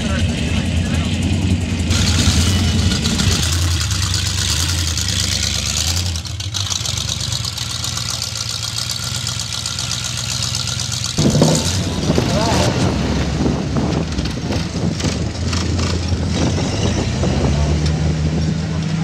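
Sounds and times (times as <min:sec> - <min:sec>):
car engine deep rumble: 0:00.0 - 0:19.0.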